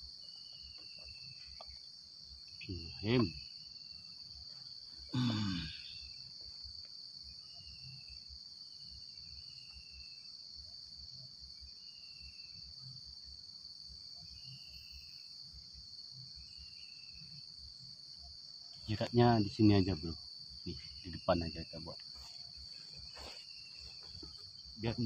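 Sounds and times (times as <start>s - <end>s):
high-pitched insect drone: 0.0s - 10.5s, 11.6s - 25.0s.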